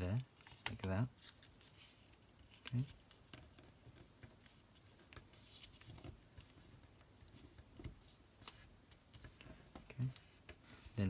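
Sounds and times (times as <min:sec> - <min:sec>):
paper rustling and crinkling: 0:00.3 - 0:11.0.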